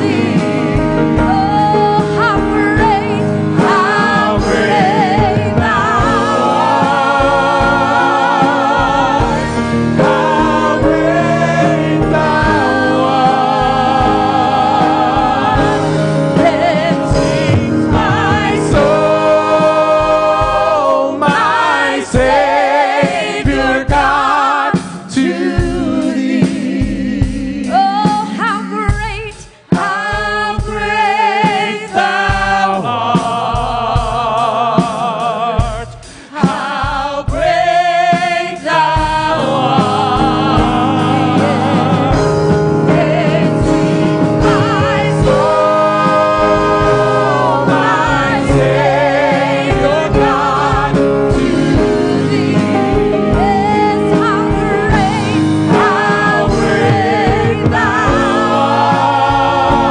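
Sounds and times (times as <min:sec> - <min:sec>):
backing music: 0:00.0 - 0:59.9
group singing worship song: 0:00.0 - 0:59.9.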